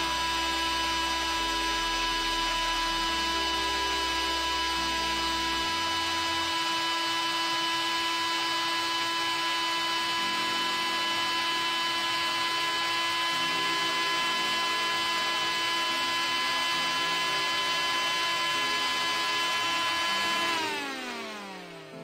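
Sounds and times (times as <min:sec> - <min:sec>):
electric nail drill whining: 0:00.0 - 0:22.0.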